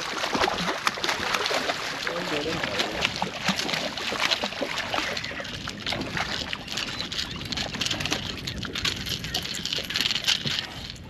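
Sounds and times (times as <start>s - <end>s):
fish thrashing and splashing: 0.0s - 11.0s
water sloshing against hull: 0.0s - 11.0s.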